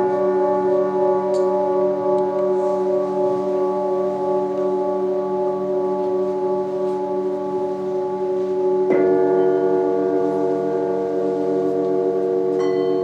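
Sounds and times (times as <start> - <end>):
singing bowl struck: 0.0 - 13.0
singing bowls ringing: 0.0 - 13.0.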